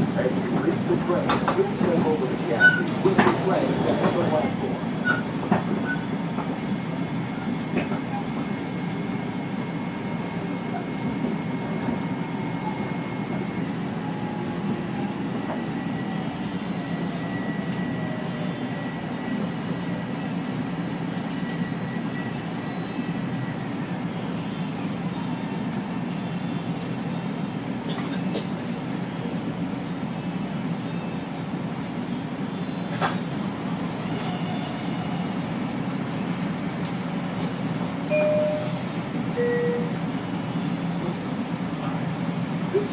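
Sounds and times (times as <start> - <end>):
train car rumble: 0.0 - 42.9.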